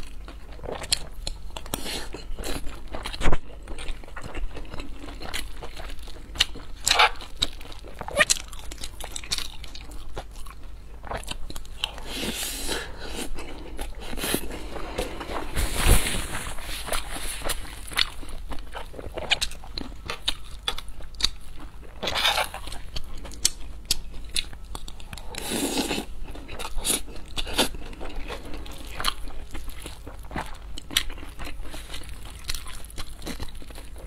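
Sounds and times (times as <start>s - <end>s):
person crunching and chewing food: 0.0s - 34.0s.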